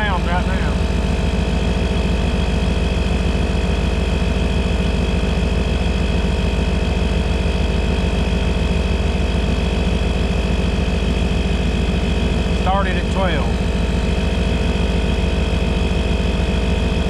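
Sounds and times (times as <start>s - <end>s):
air compressor pulsing: 0.0s - 17.0s.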